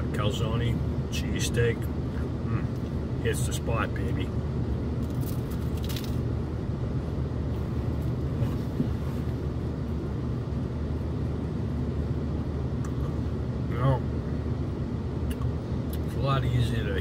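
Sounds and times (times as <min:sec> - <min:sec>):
car idling hum: 0:00.0 - 0:17.0.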